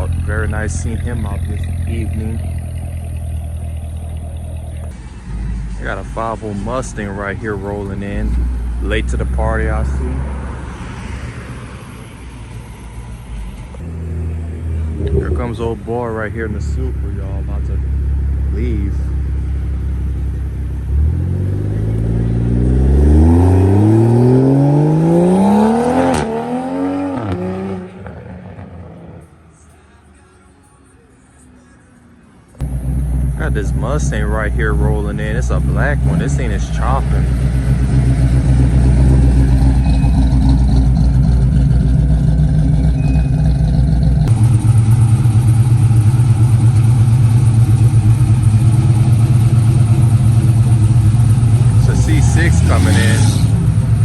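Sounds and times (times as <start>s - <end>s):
car engine accelerating hard: 0.0s - 11.3s, 13.7s - 29.2s, 32.6s - 54.0s.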